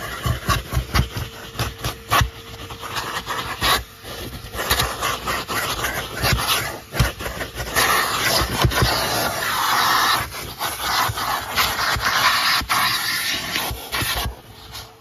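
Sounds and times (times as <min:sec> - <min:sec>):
vacuum cleaner suction hiss: 0:00.0 - 0:15.0
vacuum nozzle knocking and rubbing: 0:00.0 - 0:15.0.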